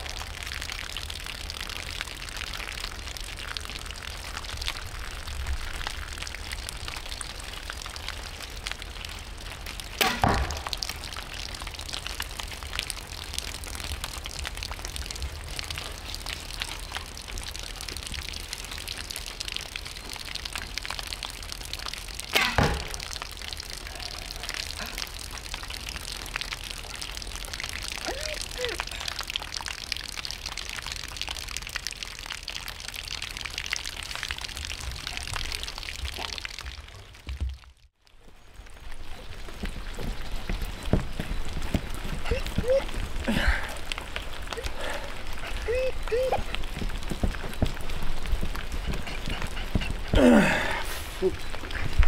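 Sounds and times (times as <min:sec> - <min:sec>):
rain pattering: 0:00.0 - 0:52.0.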